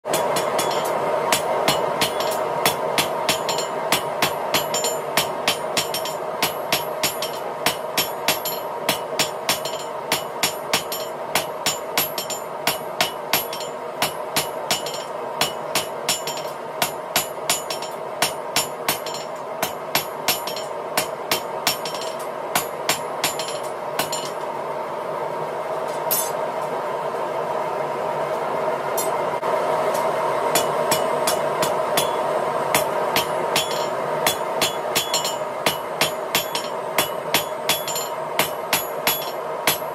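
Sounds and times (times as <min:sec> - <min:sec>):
hammer striking steel on anvil: 0:00.1 - 0:24.5, 0:25.9 - 0:26.4, 0:29.0 - 0:29.2, 0:29.9 - 0:39.9
steady hum: 0:00.1 - 0:39.9.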